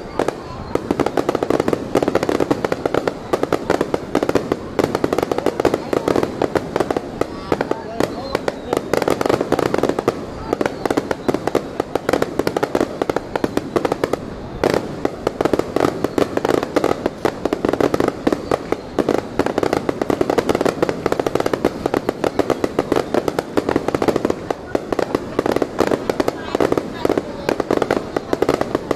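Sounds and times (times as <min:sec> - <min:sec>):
fireworks rapid bangs: 0:00.0 - 0:28.9.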